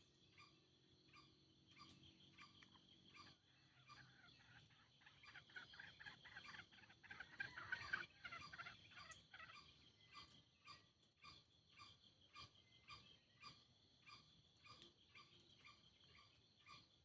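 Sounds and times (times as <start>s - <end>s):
junglefowl rattling call: 1.1s - 16.8s.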